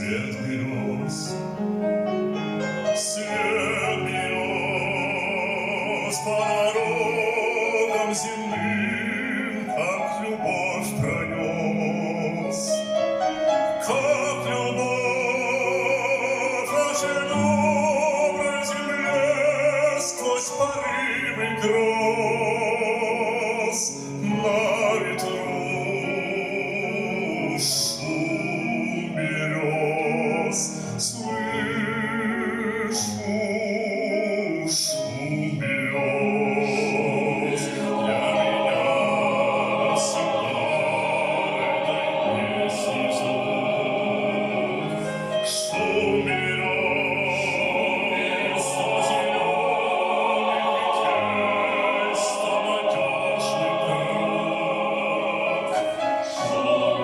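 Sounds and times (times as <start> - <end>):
choir singing slowly: 0.0 - 57.0.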